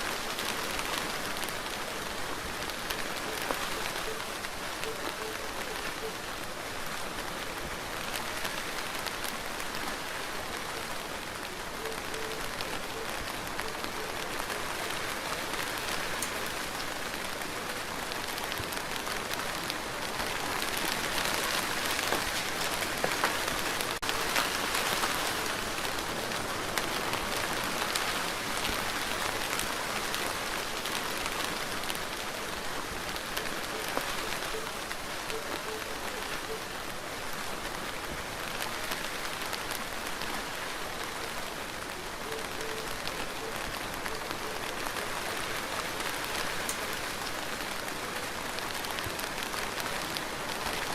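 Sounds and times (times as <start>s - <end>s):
steady rainfall: 0.0s - 50.9s.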